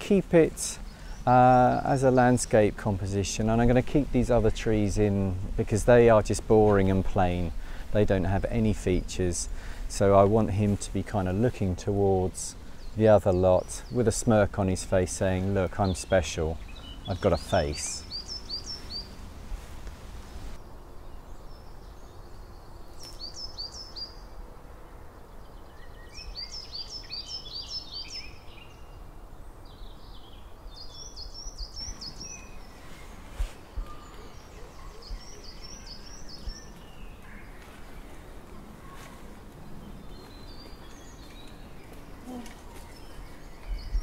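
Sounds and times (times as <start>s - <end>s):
songbird singing: 0.0s - 44.0s
steady outdoor hiss: 0.0s - 44.0s.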